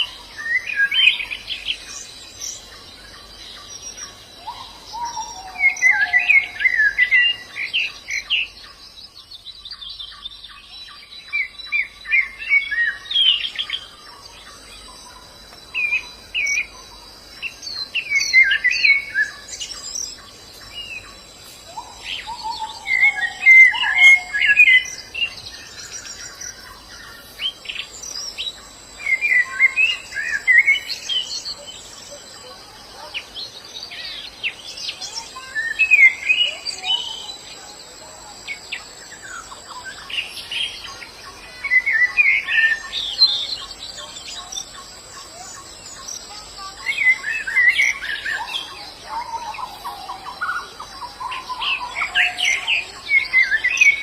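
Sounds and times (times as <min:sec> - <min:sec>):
bird twittering warble: 0:00.0 - 0:54.0.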